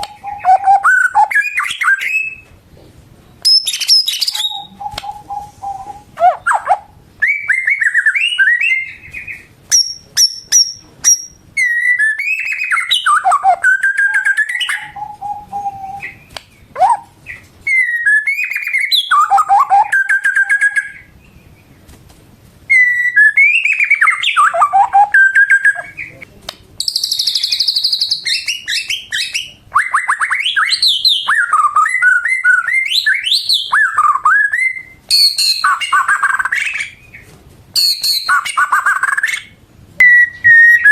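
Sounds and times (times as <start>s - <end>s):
songbird singing whistles: 0.0s - 2.6s, 3.3s - 21.7s, 22.7s - 26.2s, 26.8s - 40.9s.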